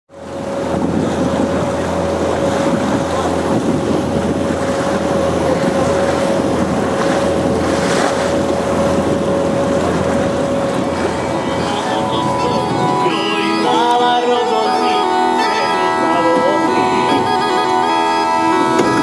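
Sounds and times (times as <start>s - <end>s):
wind buffeting microphone: 0.1s - 14.3s, 15.2s - 19.0s
motorboat engine hum: 0.1s - 19.0s
water noise: 0.1s - 19.0s
constant tone: 0.2s - 19.0s.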